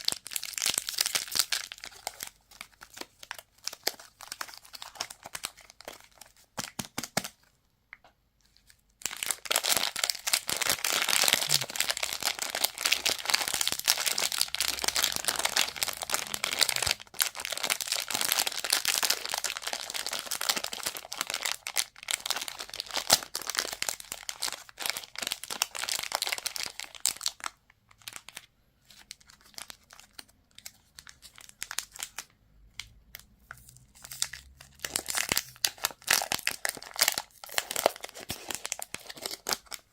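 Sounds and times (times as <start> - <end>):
packaging crinkling and tearing: 0.0 - 7.4, 8.5 - 39.9.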